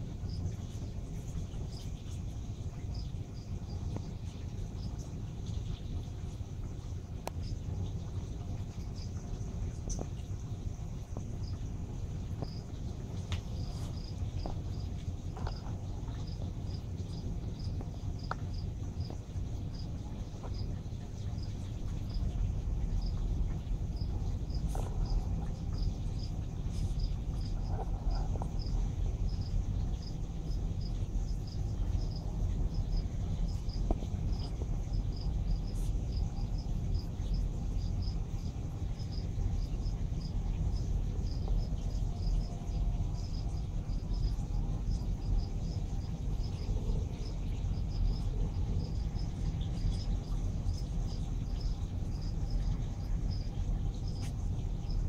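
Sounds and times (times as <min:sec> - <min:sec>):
aquarium pumps and water rushing: 0:00.0 - 0:55.0
cricket chirping: 0:00.0 - 0:55.0.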